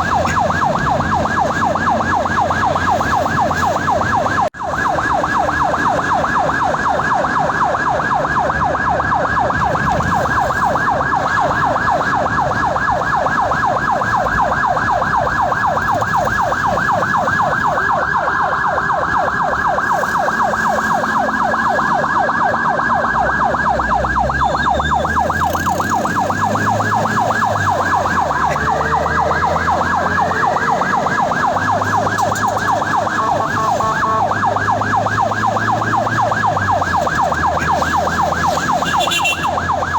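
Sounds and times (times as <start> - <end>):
ambulance siren yelping: 0.0 - 39.9
vehicle engine and road noise: 0.0 - 39.9.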